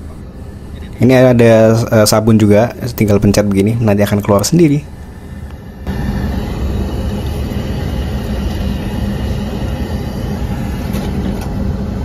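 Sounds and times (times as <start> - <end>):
aircraft cabin drone: 0.0 - 12.0.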